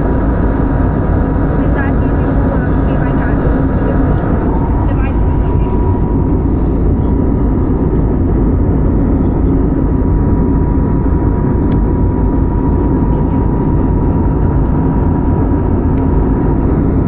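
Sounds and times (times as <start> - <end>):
airliner engine rumble: 0.0 - 17.0.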